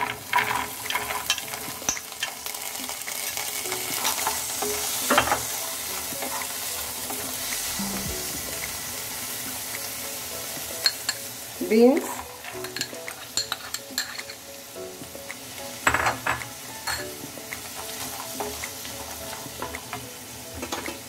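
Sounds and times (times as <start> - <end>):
corn sizzling in a pan: 0.0 - 21.0.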